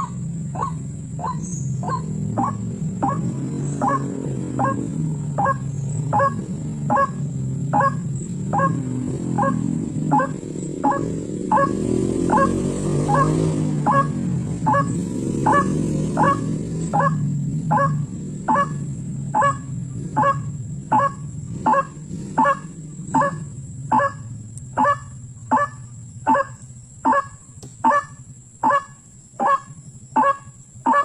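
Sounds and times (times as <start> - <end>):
bird harsh calls: 0.0 - 31.0.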